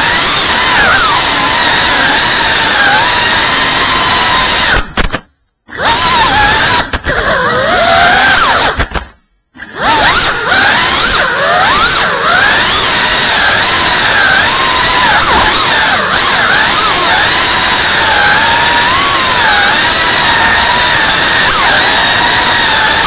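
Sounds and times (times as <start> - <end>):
drone motors whining: 0.0 - 5.0, 5.7 - 23.0.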